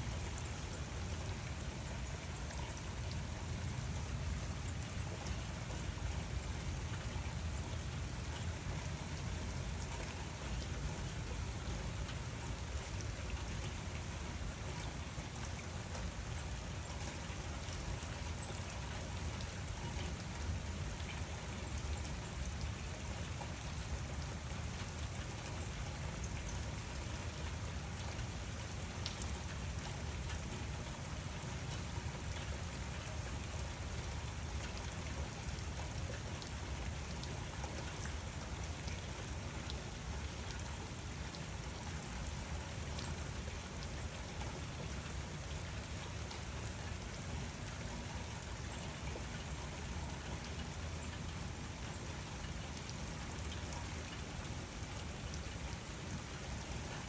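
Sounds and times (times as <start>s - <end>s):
steady rain falling: 0.0s - 57.0s
raindrop ticks: 0.2s - 57.0s.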